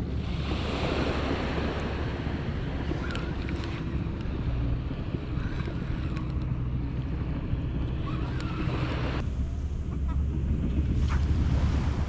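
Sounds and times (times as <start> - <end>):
sea waves on shore: 0.0 - 12.0
wind buffeting microphone: 0.0 - 12.0.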